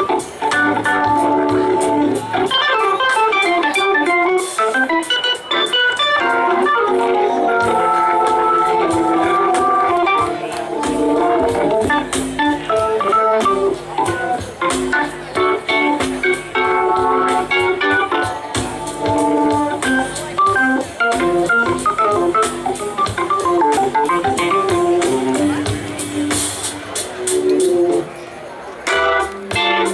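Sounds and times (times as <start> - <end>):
live band music: 0.0 - 29.9.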